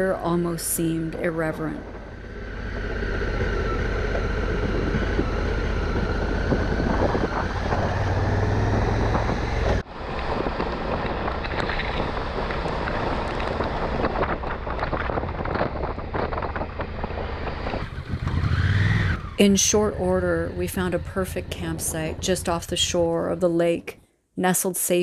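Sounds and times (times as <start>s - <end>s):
motorcycle engine hum: 0.0s - 23.9s
wind noise: 0.0s - 23.9s.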